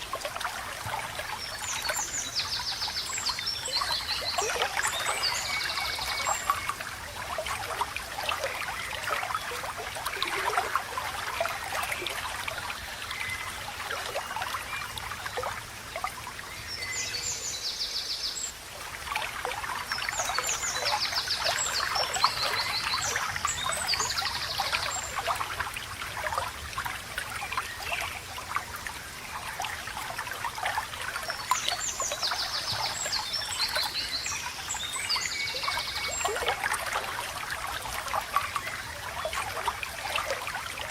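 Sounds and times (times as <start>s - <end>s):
stream trickling and babbling: 0.0s - 40.9s.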